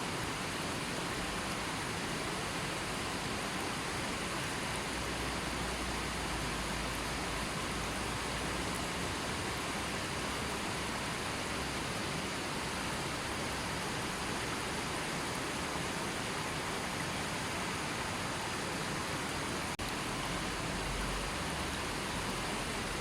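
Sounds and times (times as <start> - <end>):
river flowing: 0.0 - 23.0.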